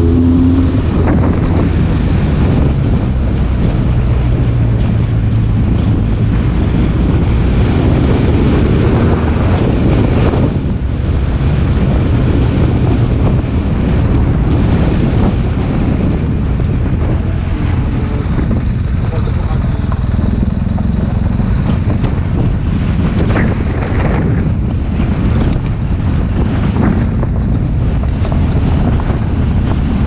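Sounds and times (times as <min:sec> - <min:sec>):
vehicle engine running: 0:00.0 - 0:30.0
wind buffeting microphone: 0:00.0 - 0:30.0.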